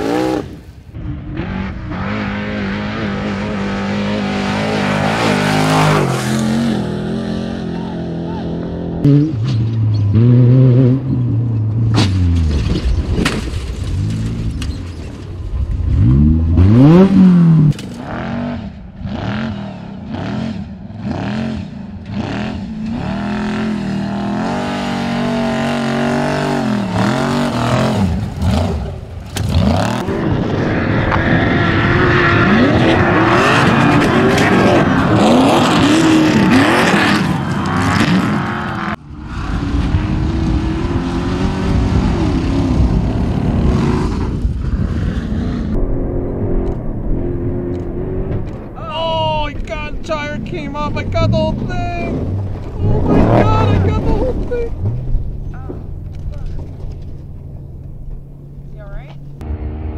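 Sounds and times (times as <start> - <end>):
race engines revving on dirt: 0.0 - 59.9.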